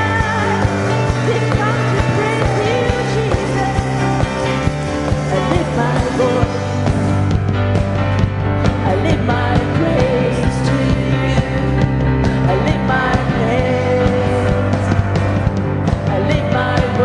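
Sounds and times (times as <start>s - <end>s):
person singing: 0.0s - 7.1s, 8.6s - 17.0s
band playing with drums: 0.0s - 17.0s.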